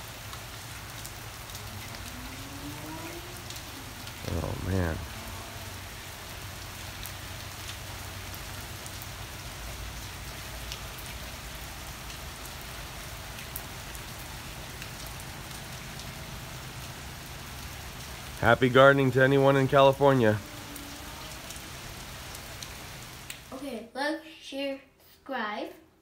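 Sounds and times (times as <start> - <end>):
rain falling on plants: 0.0 - 23.7.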